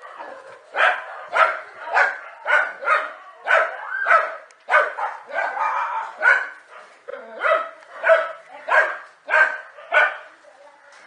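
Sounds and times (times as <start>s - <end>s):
dogs barking: 0.0s - 10.3s.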